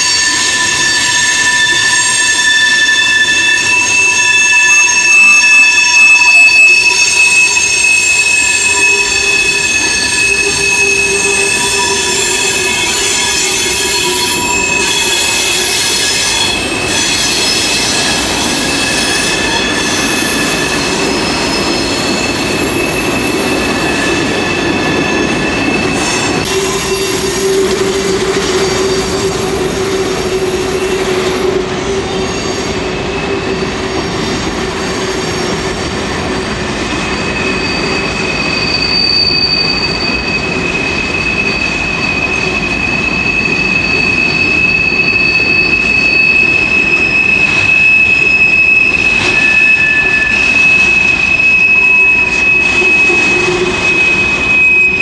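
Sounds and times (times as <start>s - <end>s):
steel wheels squealing on rail: 0.0s - 55.0s
train rolling noise: 0.0s - 55.0s.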